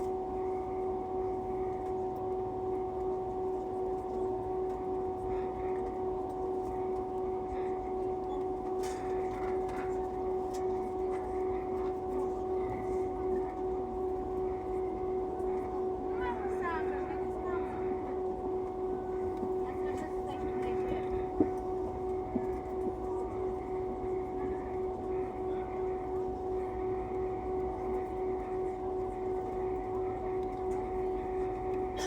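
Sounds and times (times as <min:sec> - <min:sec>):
jet engine cabin drone: 0:00.0 - 0:32.0.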